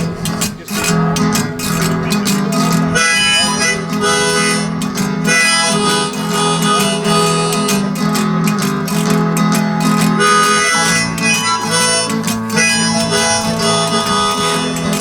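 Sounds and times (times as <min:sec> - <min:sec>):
harmonica solo: 0:00.0 - 0:15.0
strummed acoustic guitar: 0:00.0 - 0:15.0.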